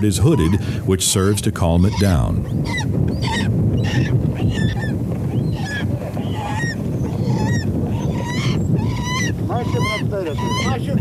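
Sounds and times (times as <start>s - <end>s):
steady low rumble: 0.0s - 11.0s
falcon honking cries: 0.1s - 11.0s.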